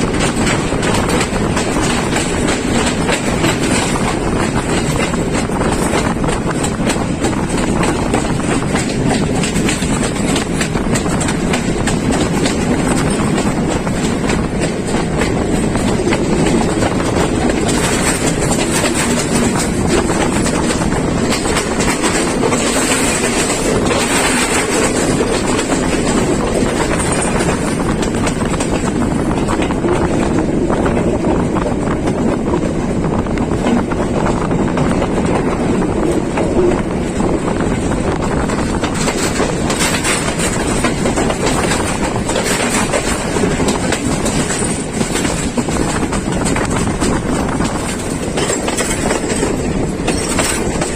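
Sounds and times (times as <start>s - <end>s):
train wheels rumbling and rattling: 0.0s - 50.9s.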